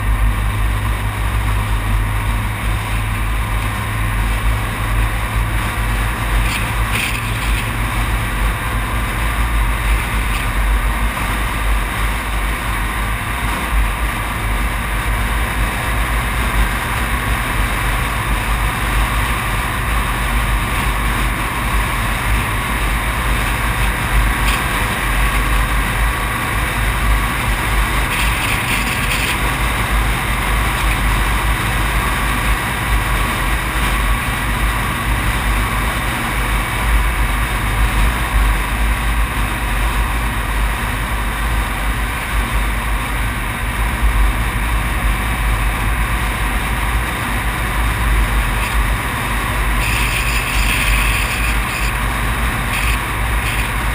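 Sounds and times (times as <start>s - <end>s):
road noise rumble: 0.0s - 53.9s.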